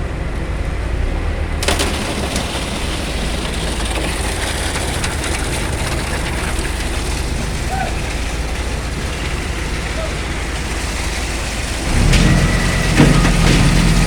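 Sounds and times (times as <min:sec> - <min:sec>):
diesel machinery rumbling: 0:00.0 - 0:14.0.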